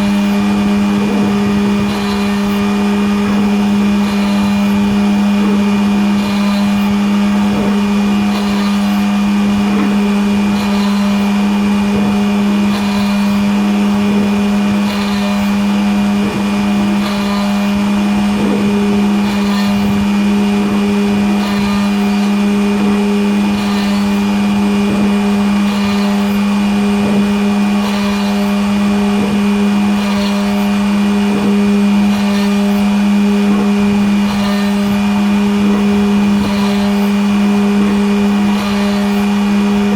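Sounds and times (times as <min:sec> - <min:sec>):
machine motors humming: 0:00.0 - 0:39.9.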